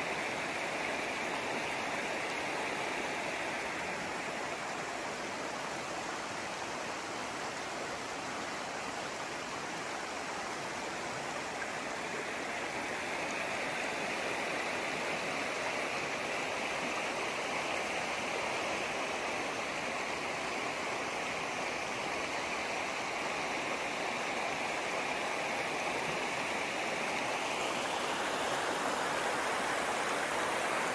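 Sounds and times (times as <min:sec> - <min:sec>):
river running over rocks: 0:00.0 - 0:30.9.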